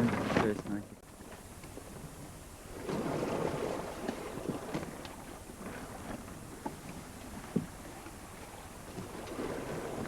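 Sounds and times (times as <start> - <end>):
water washing along hull: 0.0 - 10.0.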